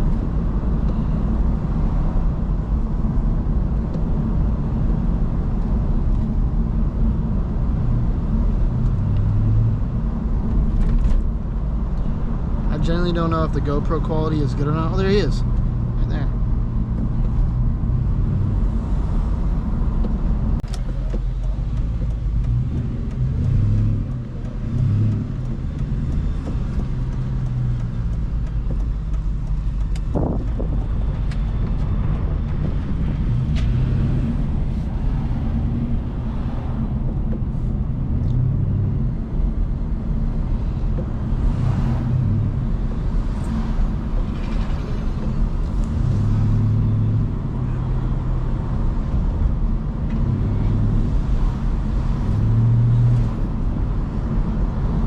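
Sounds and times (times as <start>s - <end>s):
car engine with road noise: 0.0s - 55.0s.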